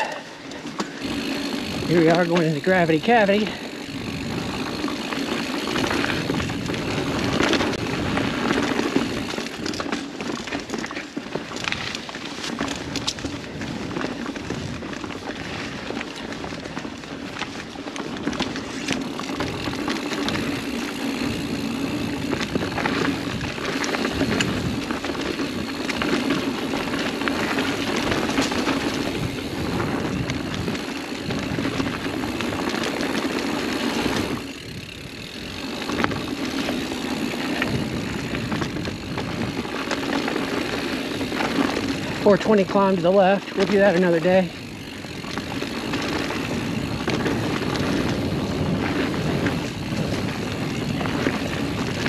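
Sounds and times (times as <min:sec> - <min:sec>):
bike clicks and rattles: 0:00.0 - 0:52.0
bike tyres rolling on dirt: 0:00.0 - 0:52.0.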